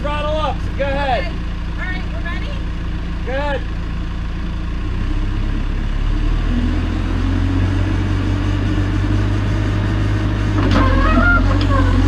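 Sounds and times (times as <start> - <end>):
backhoe engine revving: 0.0 - 12.0.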